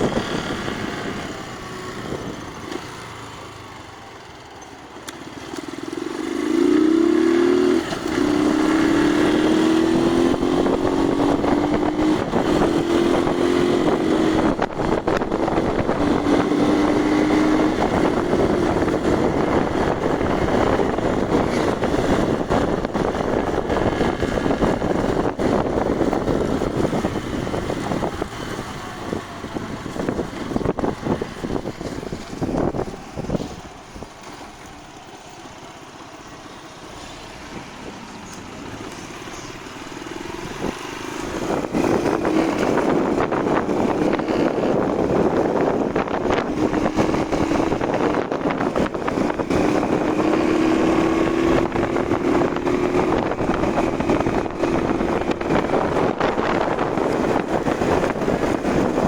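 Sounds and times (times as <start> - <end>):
wind noise on microphone: 0.0 - 3.8, 6.1 - 59.0
motorcycle engine running: 0.0 - 59.0.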